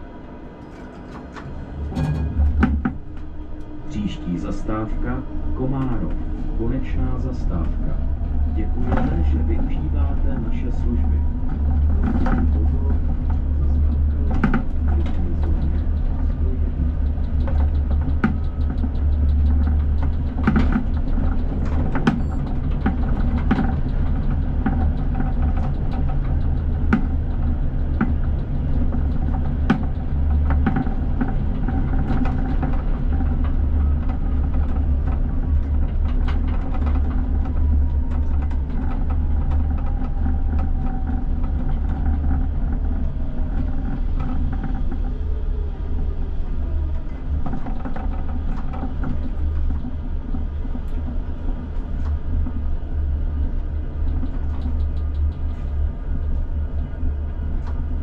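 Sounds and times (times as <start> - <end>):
faint whine: 0.0 - 58.0
tram rumbling: 0.0 - 58.0
wheels clicking on rails: 0.0 - 58.0.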